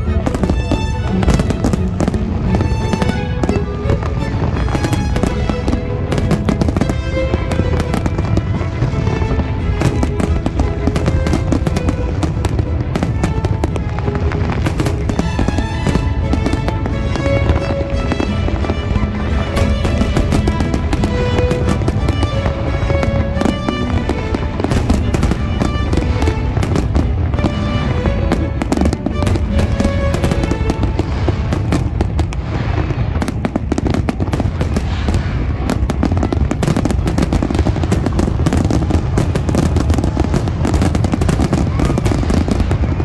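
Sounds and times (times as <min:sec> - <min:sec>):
fireworks bursting: 0:00.0 - 0:43.0
music with held notes: 0:00.0 - 0:43.0.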